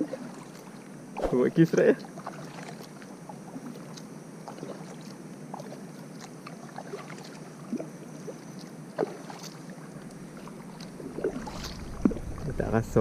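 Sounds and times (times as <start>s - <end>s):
water lapping around kayak hull: 0.0s - 13.0s.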